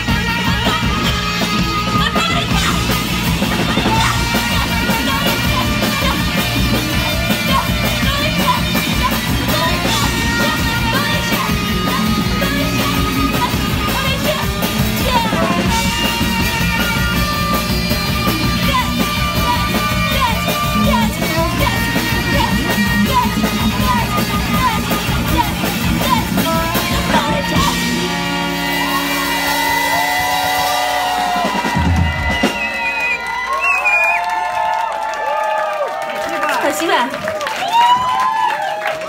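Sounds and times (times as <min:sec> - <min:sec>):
electric guitar: 0:00.0 - 0:33.2
saxophone: 0:00.0 - 0:33.6
drum kit: 0:00.0 - 0:34.7
bass: 0:00.0 - 0:39.0.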